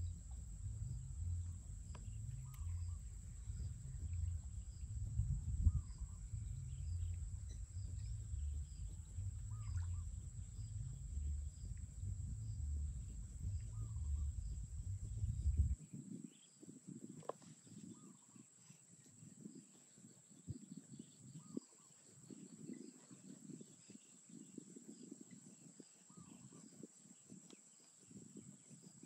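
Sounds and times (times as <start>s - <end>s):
low wind rumble on microphone: 0.0s - 29.0s.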